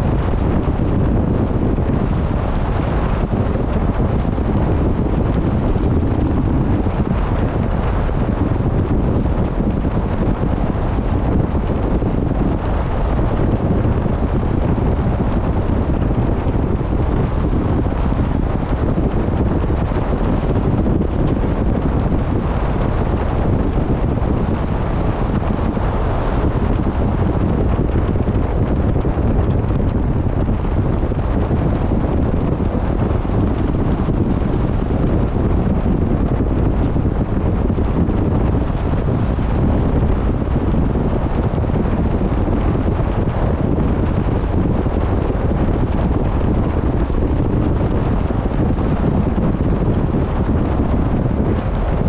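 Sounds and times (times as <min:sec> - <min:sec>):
wind on microphone: 0:00.0 - 0:52.0.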